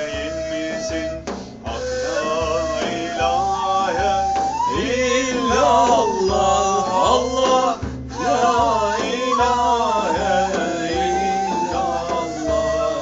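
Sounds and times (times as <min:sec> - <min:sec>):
frame drum beating: 0:00.0 - 0:13.0
reed flute melody: 0:00.0 - 0:13.0.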